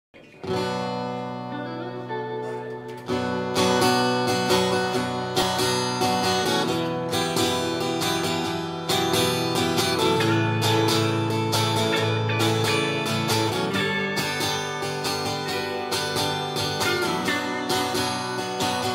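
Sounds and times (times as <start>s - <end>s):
acoustic guitar strumming: 0.2s - 18.9s
electric guitar playing: 0.2s - 18.9s.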